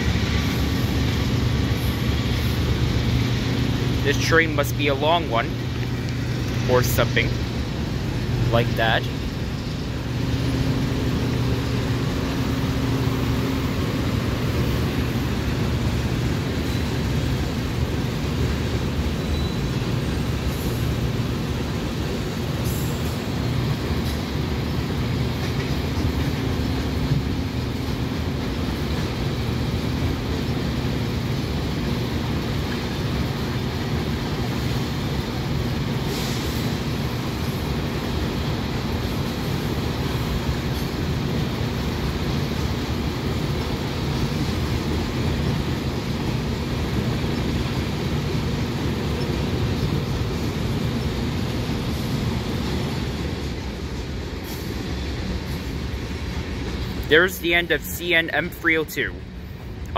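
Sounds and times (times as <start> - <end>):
freight train wheels on rail: 0.0 - 59.9.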